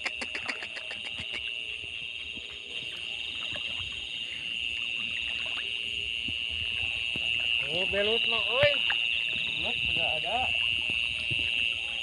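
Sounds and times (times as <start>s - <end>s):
faint splashes in water: 0.0s - 12.0s
frogs calling: 0.0s - 12.0s
insects chirping: 0.0s - 12.0s.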